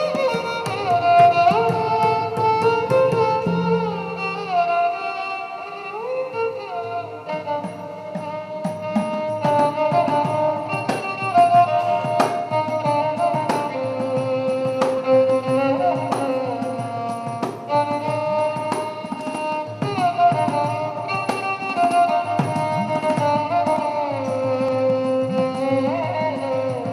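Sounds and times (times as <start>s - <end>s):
hand drum strokes: 0.0s - 5.0s, 6.3s - 26.9s
violin melody: 0.0s - 26.9s.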